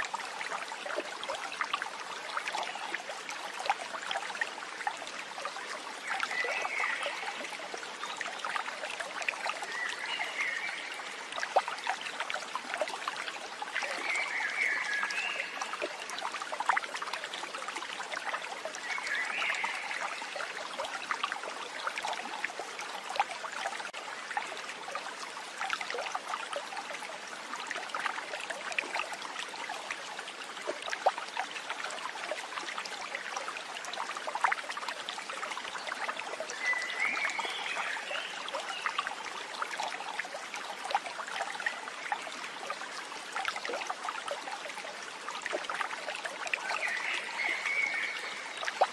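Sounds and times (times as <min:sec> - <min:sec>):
water trickling and splashing: 0:00.0 - 0:48.9.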